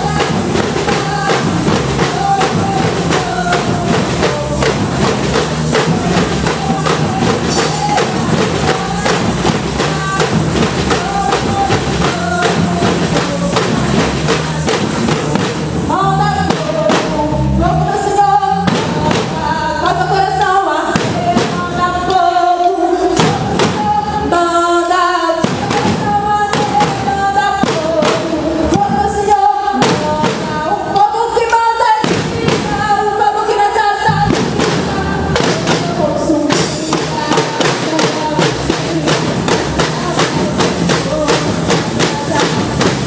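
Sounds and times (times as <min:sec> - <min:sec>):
drums playing driving beat: 0:00.0 - 0:22.4, 0:23.0 - 0:43.0
voices singing a hymn: 0:00.0 - 0:43.0.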